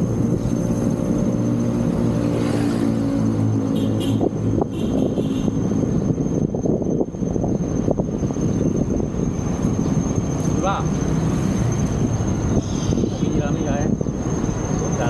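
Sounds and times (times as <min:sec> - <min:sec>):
car engine droning close by: 0:00.0 - 0:15.0
rumble of passing traffic: 0:00.0 - 0:15.0.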